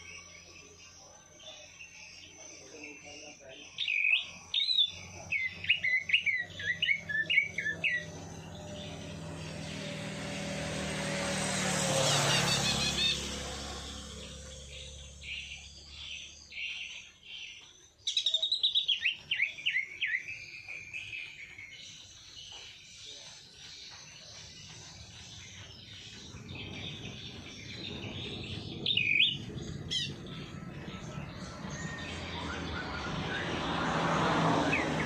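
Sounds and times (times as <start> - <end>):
songbirds chirping and singing: 0.0 - 35.0.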